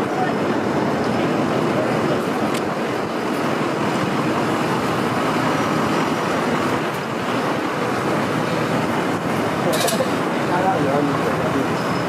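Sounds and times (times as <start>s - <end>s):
city traffic hum: 0.0s - 12.0s.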